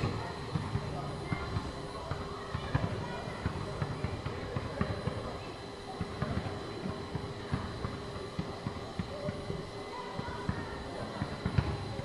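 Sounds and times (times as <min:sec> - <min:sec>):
basketball bouncing on a court: 0:00.0 - 0:12.0.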